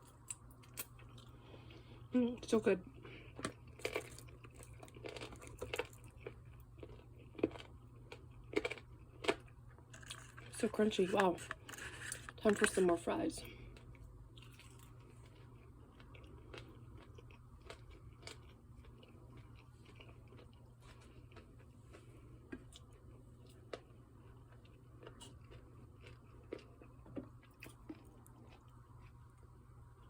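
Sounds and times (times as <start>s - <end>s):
person chewing crunchy food: 0.0s - 2.1s, 2.8s - 30.0s.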